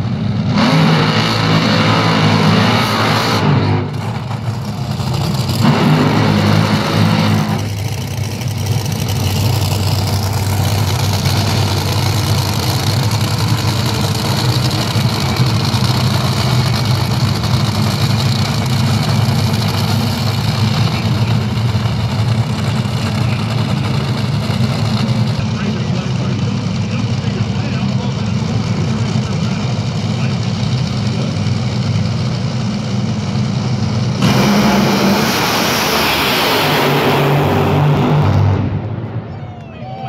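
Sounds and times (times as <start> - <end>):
dragster engines revving and idling: 0.0 - 40.0.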